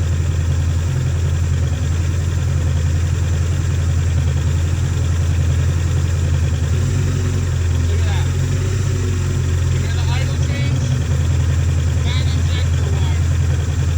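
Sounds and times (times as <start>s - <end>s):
watercraft engine idling: 0.0s - 13.9s.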